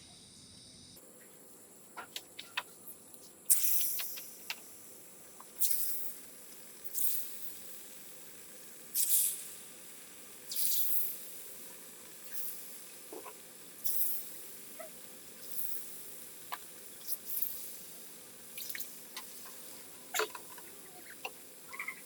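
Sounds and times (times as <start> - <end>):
hot oil sizzling: 3.4 - 22.0.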